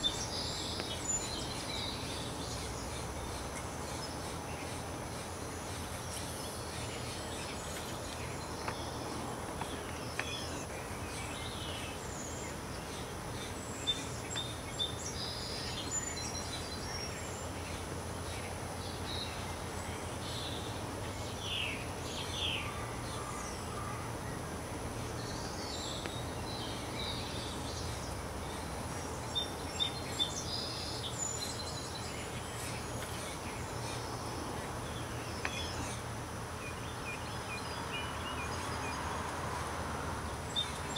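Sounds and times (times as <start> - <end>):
outdoor background noise: 0.0 - 40.9.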